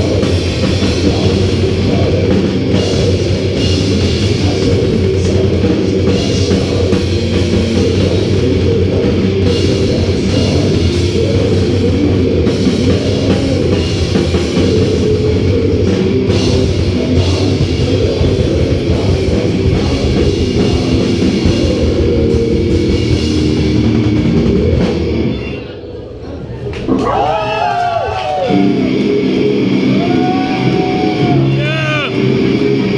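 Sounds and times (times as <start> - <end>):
drum kit: 0.0 - 25.6, 28.4 - 32.9
heavy metal band playing live: 0.0 - 25.7, 28.5 - 32.9
distorted guitars: 0.0 - 26.0, 28.5 - 32.9.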